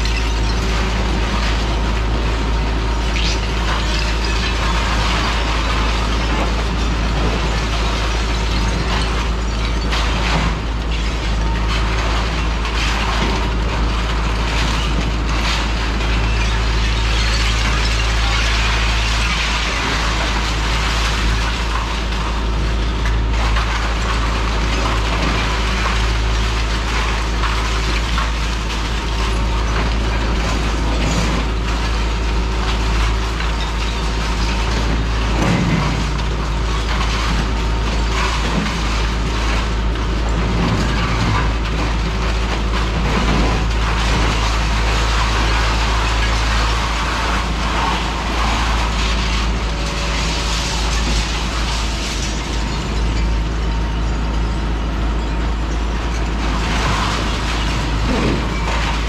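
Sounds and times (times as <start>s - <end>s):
demolition tool crunching concrete: 0.0s - 53.9s, 55.5s - 59.0s
excavator diesel engine running: 0.0s - 59.0s.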